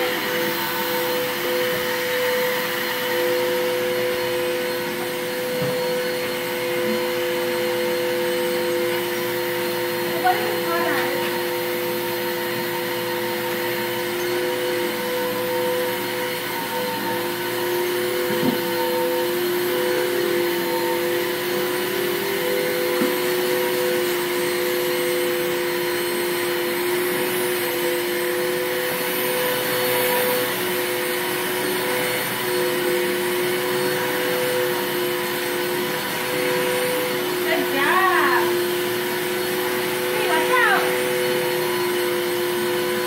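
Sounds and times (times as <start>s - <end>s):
vacuum cleaner on carpet: 0.0s - 43.0s.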